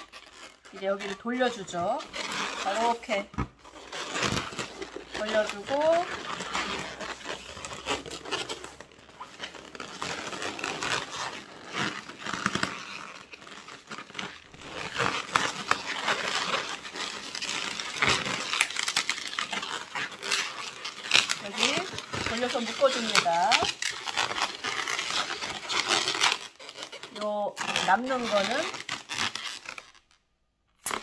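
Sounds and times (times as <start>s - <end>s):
balloons rubbing and squeaking: 0.0s - 31.0s.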